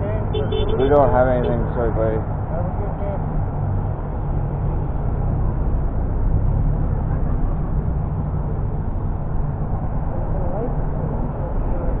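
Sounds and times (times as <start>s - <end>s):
vehicle rumble with road noise: 0.0s - 12.0s.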